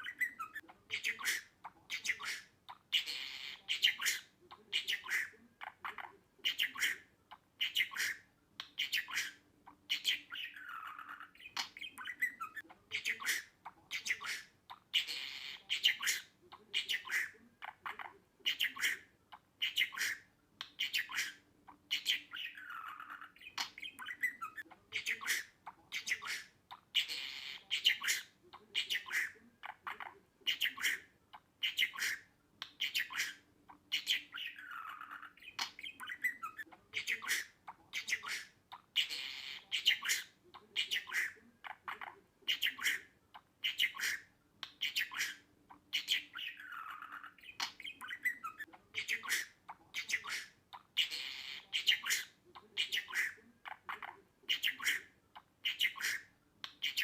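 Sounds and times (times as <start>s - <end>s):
budgerigar warbling and chattering: 0.0s - 57.0s.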